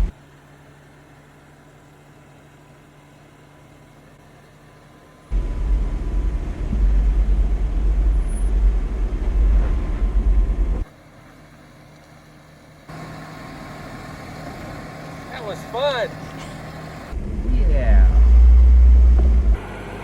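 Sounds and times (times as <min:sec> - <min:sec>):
off-road vehicle engine rumbling: 0:00.0 - 0:20.0
steady engine hum: 0:00.0 - 0:20.0.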